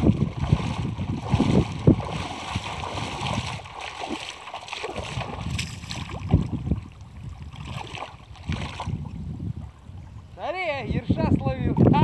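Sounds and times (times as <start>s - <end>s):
wading through river water: 0.0s - 12.0s
wind rumbling on microphone: 0.0s - 12.0s.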